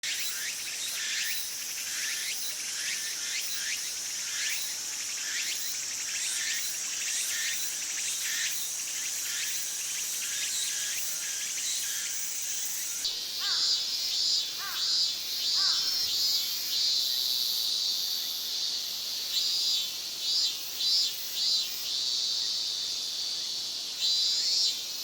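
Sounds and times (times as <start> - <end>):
cicada singing: 0.0 - 25.0.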